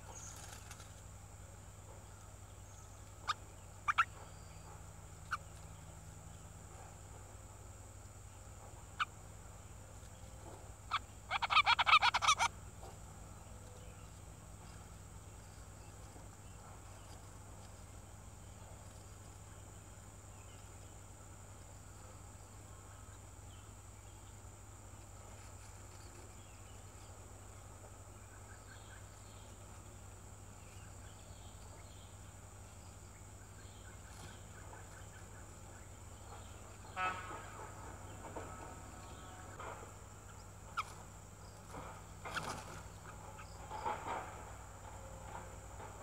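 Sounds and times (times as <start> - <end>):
chattering bird calls: 0.0 - 1.0, 1.7 - 7.3, 8.2 - 46.0.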